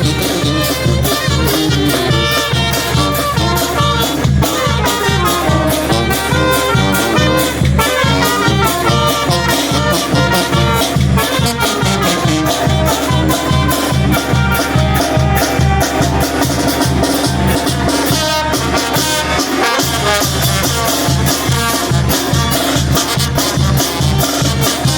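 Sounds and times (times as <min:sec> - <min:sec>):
brass band playing: 0:00.0 - 0:24.9
trumpets playing melody: 0:00.0 - 0:24.9.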